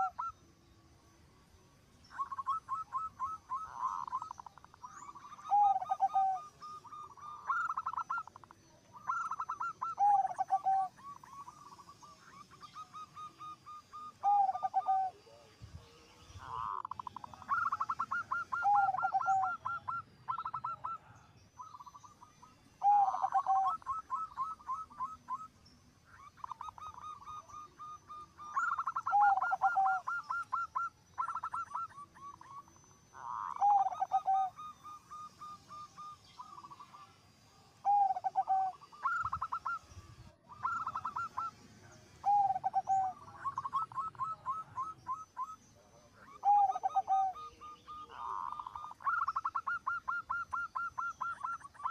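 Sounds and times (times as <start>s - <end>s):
dove singing: 0.0s - 51.9s.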